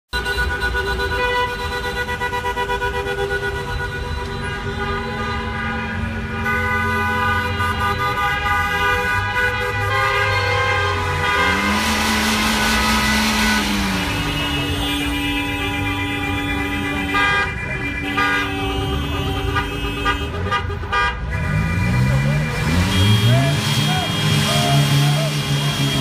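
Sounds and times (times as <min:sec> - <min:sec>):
car horns honking: 0:00.1 - 0:26.0.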